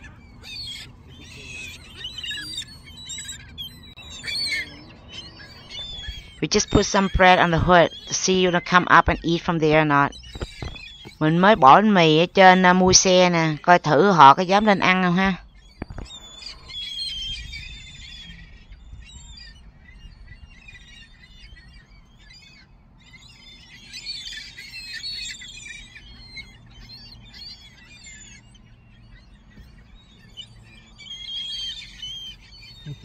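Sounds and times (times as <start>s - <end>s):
gulls calling: 0.0s - 33.0s.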